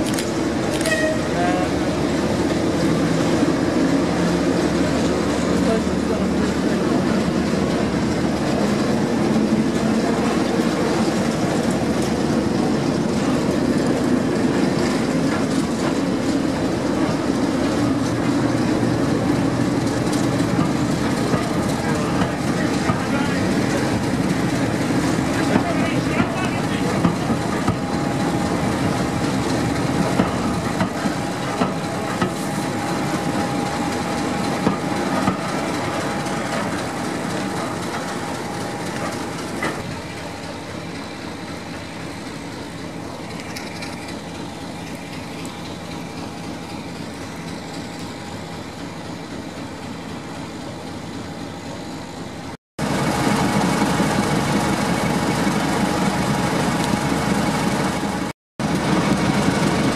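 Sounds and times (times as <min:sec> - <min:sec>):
diesel locomotive idling: 0:00.0 - 0:59.9
train wheels clicking over rail joints: 0:00.0 - 0:59.9.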